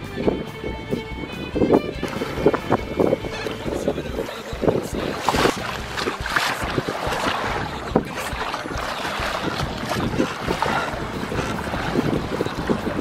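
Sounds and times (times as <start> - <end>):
water rushing along boat hull: 0.0 - 13.0
wind buffeting microphone: 0.0 - 13.0.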